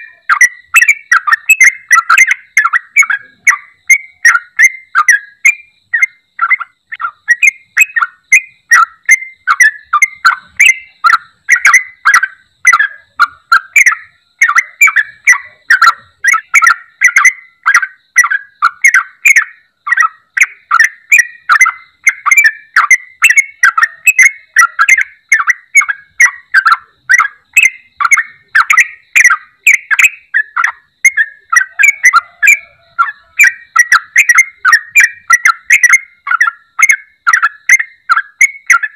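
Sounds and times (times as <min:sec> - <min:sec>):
bird singing bubbly notes: 0:00.0 - 0:38.9.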